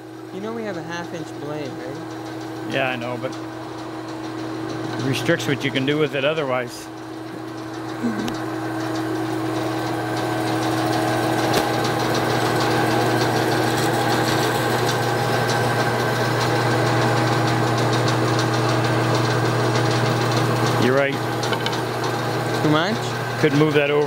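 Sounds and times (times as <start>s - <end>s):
bandsaw motor hum: 0.0s - 24.0s.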